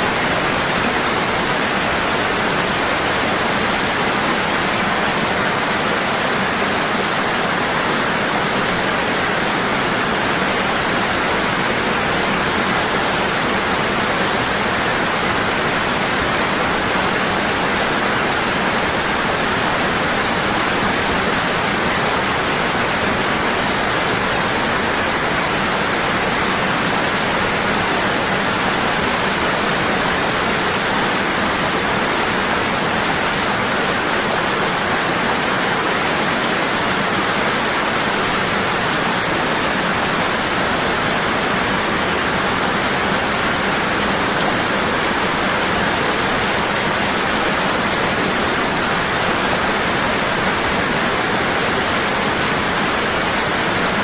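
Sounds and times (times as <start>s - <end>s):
waterfall pouring: 0.0s - 54.0s.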